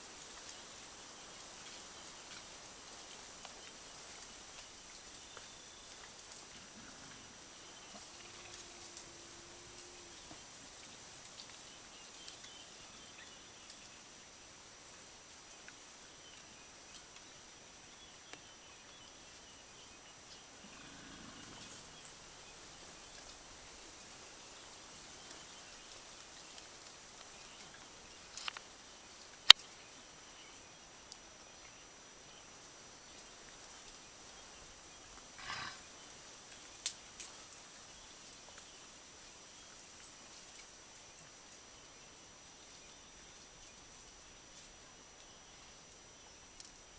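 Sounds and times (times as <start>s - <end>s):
high insect hum: 0.2s - 46.9s.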